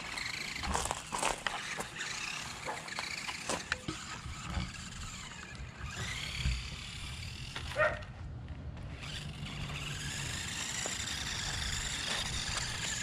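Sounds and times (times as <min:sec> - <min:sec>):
toy car motor whirring: 0:00.0 - 0:08.0, 0:08.8 - 0:13.0.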